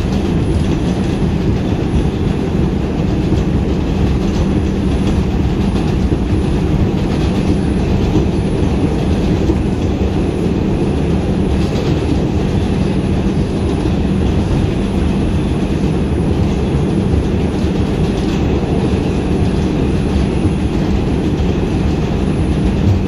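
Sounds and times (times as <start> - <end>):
low hum: 0.0 - 23.0
train wheels rumbling on rails: 0.0 - 23.0.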